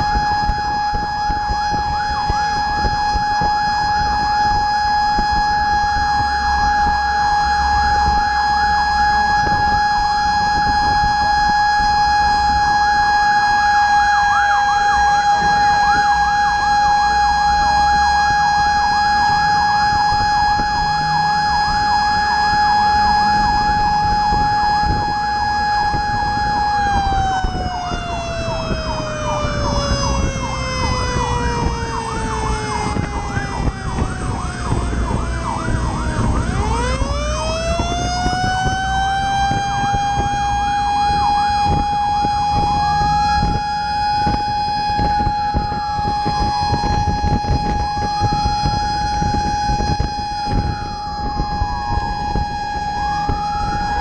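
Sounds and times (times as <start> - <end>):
fire truck siren wailing: 0.0 - 54.0
siren yelping rapidly: 0.0 - 54.0.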